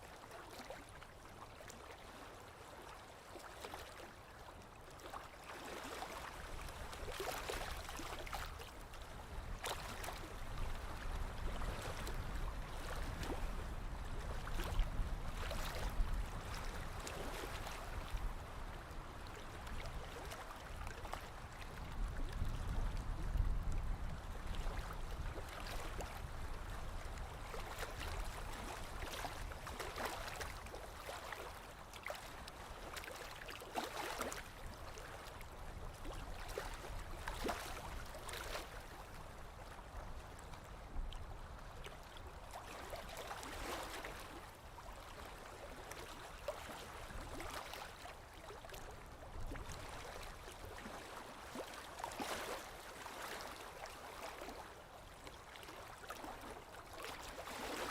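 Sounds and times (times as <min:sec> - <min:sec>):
lake waves lapping against shore: 0:00.1 - 0:57.9.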